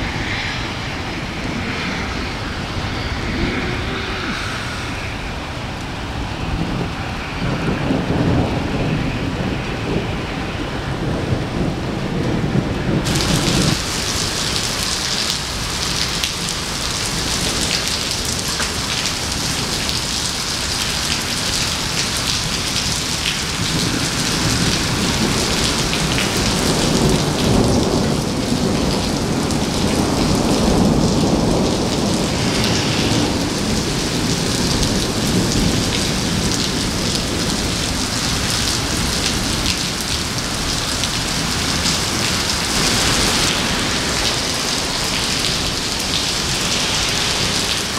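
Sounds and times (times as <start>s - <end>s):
heavy rain on pavement: 0.0s - 47.9s
rolling thunder rumble: 0.0s - 47.9s.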